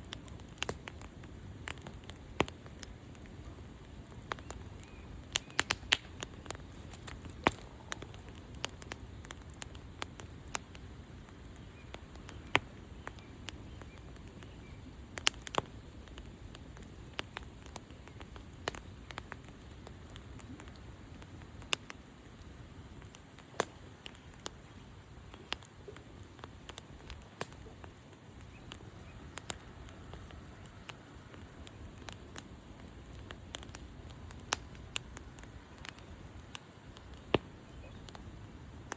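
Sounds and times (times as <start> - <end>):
campfire crackles and pops: 0.0 - 38.9
flames hissing: 0.1 - 38.9.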